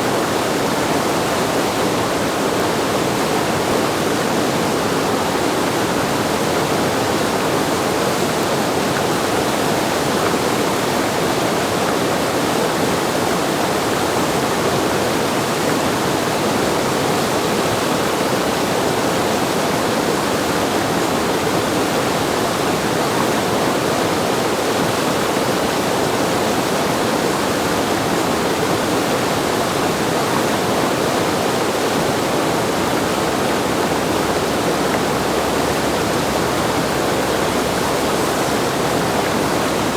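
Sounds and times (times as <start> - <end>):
whitewater roaring: 0.0 - 39.9.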